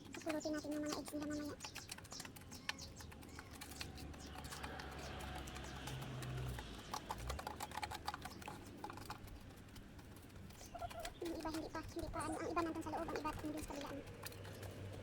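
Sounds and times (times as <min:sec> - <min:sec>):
chickens pecking grain: 0:00.0 - 0:15.0.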